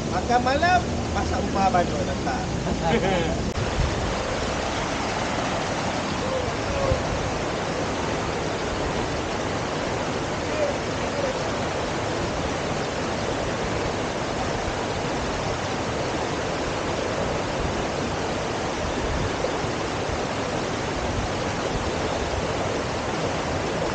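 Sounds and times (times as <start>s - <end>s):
stream rushing over rocks: 0.0s - 23.9s.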